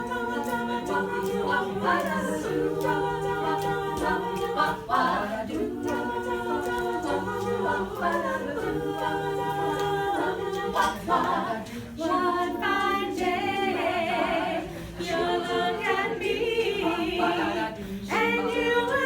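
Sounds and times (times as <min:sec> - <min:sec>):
women singing in close harmony: 0:00.0 - 0:19.0.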